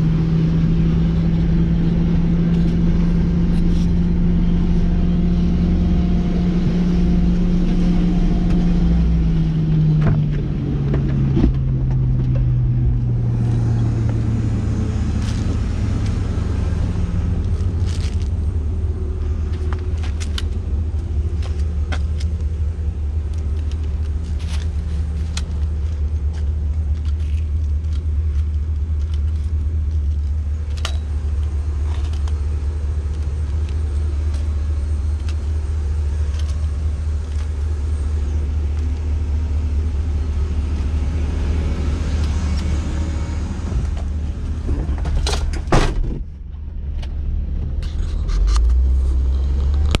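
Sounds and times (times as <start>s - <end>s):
truck engine running: 0.0s - 50.0s.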